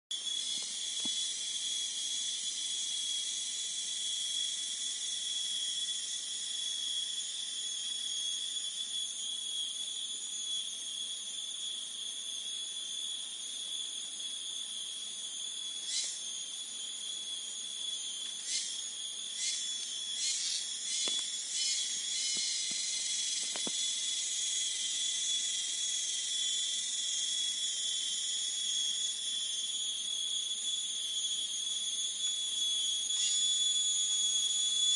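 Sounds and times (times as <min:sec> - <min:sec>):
insect chorus trilling: 0:00.1 - 0:34.9.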